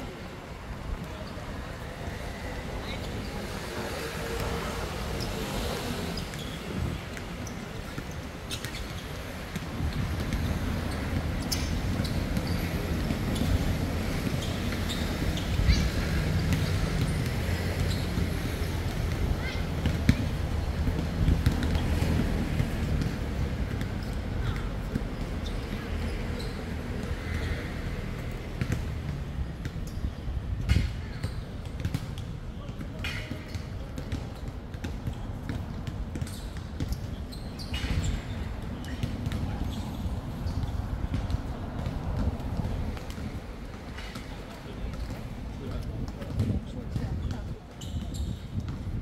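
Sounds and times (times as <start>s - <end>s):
low rumble of traffic: 0.0s - 49.0s.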